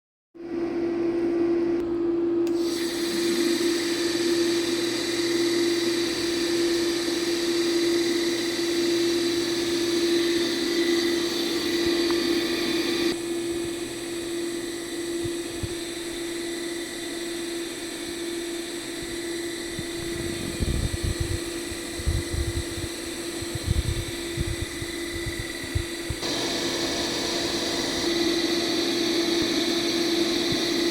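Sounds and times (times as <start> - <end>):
electric motor hum: 0.4 - 30.9
high whine from drive: 0.4 - 30.9.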